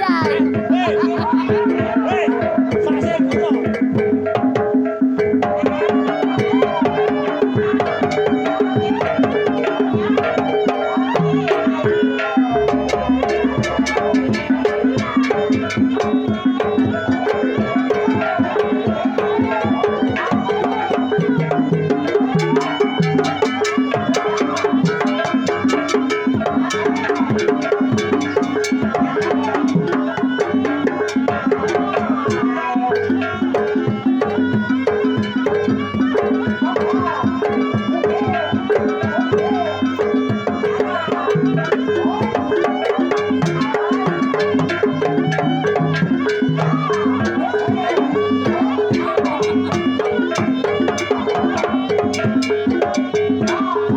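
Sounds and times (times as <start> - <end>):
fast hand drum strokes: 0.0 - 53.9.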